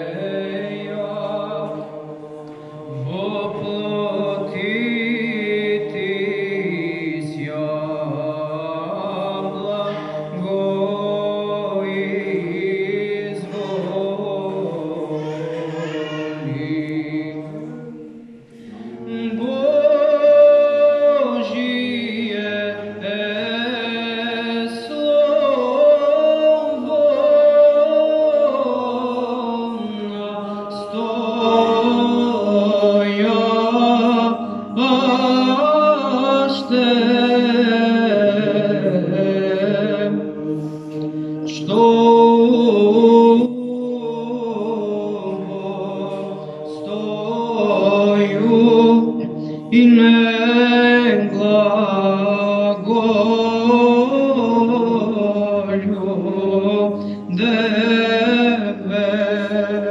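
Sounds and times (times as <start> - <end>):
male choir chanting a cappella: 0.0 - 59.9.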